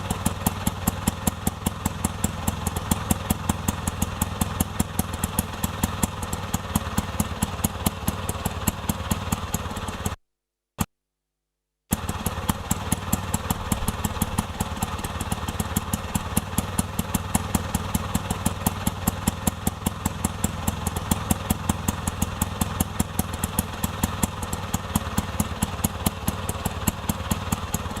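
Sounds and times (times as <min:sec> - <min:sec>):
auto rickshaw engine puttering: 0:00.0 - 0:10.2, 0:11.9 - 0:28.0.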